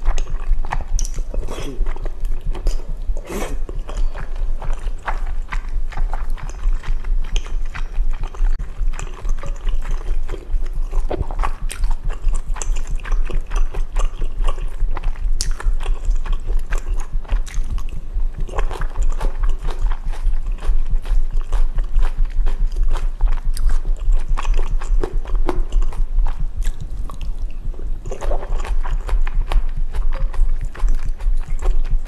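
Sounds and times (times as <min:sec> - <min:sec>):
steady deep rumble: 0:00.0 - 0:32.0
wet chewing and mouth clicks: 0:00.0 - 0:32.0.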